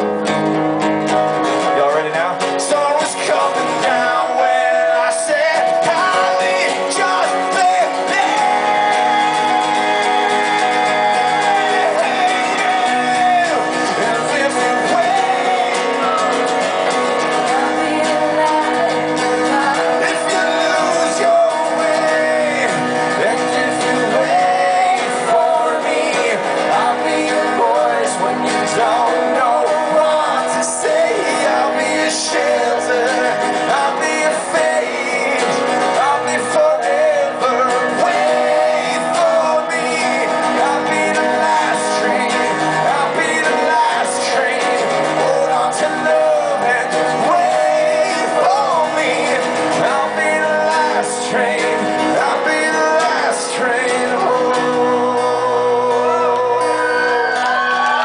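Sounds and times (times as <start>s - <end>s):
strummed acoustic guitar: 0.0s - 58.0s
man singing: 1.6s - 58.0s.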